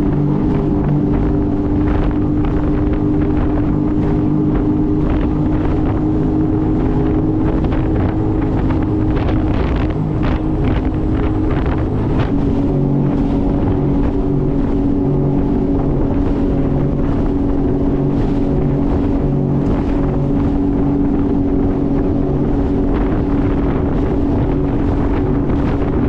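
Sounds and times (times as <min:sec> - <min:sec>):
jet ski engine running: 0:00.0 - 0:26.0
wind on microphone: 0:00.0 - 0:26.0.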